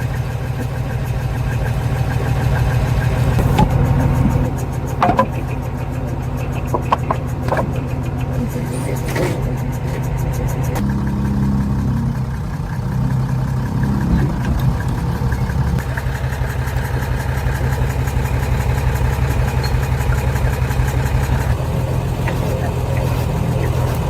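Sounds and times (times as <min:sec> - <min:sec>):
diesel engine idling: 0:00.0 - 0:24.0
high droning tone: 0:00.0 - 0:24.0.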